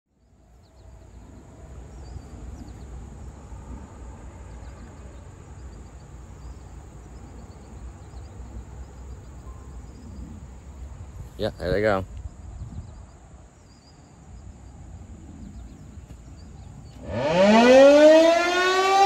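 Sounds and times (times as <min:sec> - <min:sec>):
insect drone: 0:00.2 - 0:19.0
wind rumble on microphone: 0:00.3 - 0:17.2.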